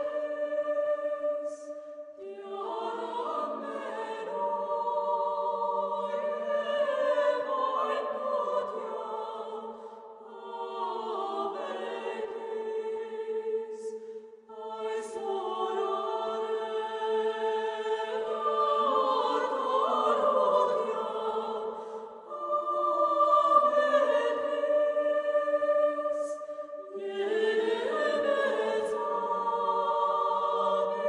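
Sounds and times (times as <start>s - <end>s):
choir singing a slow hymn: 0.0s - 31.0s.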